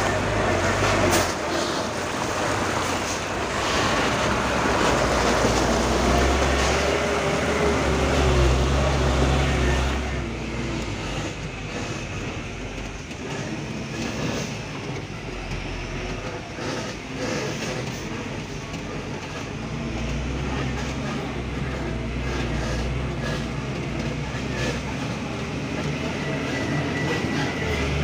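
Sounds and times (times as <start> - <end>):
diesel truck engine: 0.0 - 28.0.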